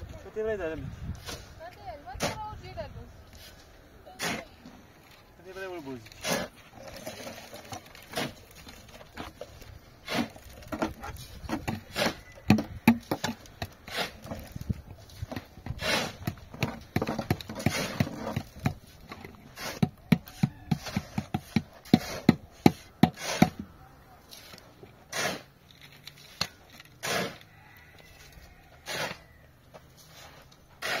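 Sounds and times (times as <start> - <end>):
scraping noises: 0.6 - 31.0.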